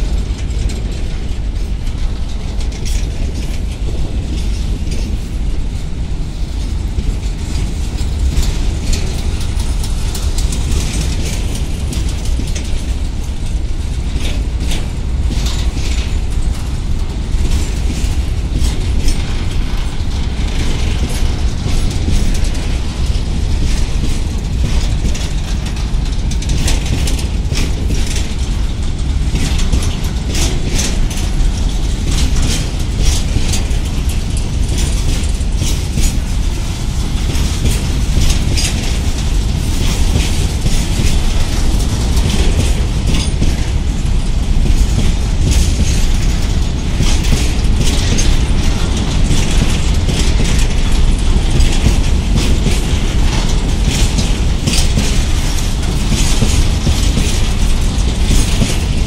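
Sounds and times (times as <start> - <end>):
heavy rumble of wheels on rail: 0.0 - 59.0
metallic clanks and rattles: 0.0 - 59.0.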